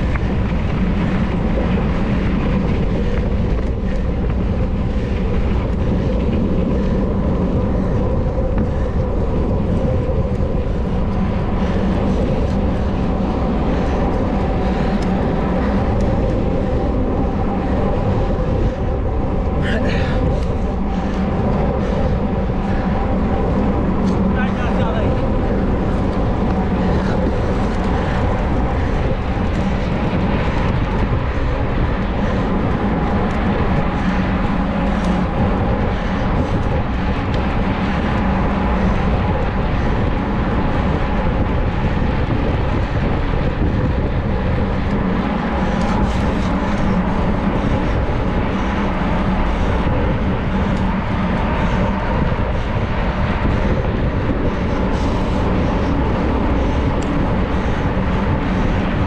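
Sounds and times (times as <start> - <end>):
bike tyres rolling: 0.0 - 59.0
wind on microphone: 0.0 - 59.0.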